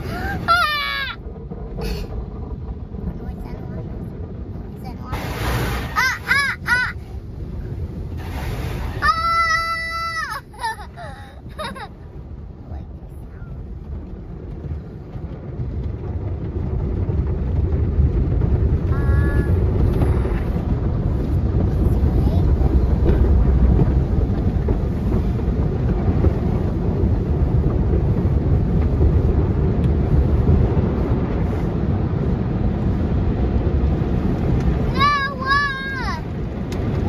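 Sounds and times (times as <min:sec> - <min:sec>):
car wash water and brushes rumbling: 0:00.0 - 0:37.0.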